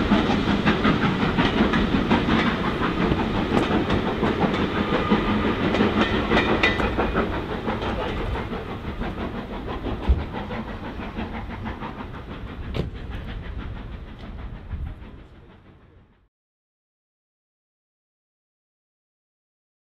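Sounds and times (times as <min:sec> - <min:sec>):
steam train clatter and rumble: 0:00.0 - 0:16.3.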